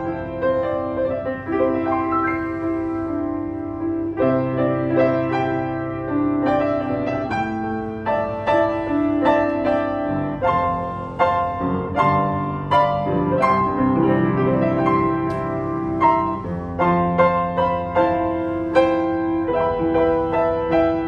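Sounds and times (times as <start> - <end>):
upright piano playing: 0.0 - 21.0.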